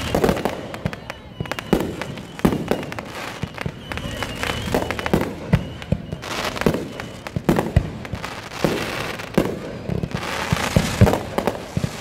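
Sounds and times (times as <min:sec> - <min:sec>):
firework crackling: 0:00.0 - 0:12.0
firework shells booming: 0:00.0 - 0:12.0.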